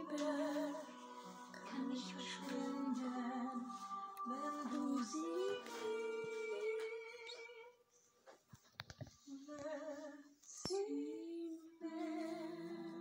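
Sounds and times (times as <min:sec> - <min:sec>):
soft music through tv speakers: 0:00.0 - 0:13.0.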